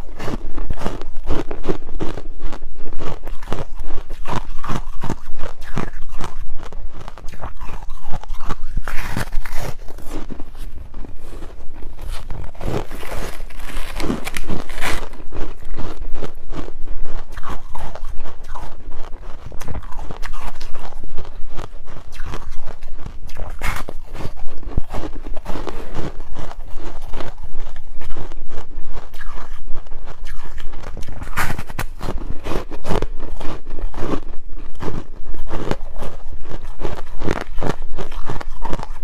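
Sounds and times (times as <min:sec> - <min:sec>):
ice being chewed: 0:00.0 - 0:39.0.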